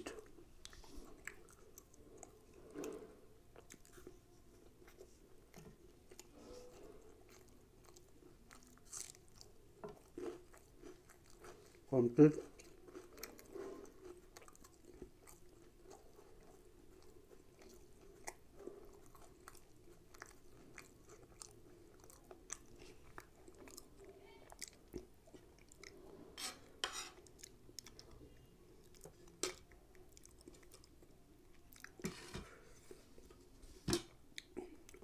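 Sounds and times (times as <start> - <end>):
faint chewing of food: 0.0 - 35.0.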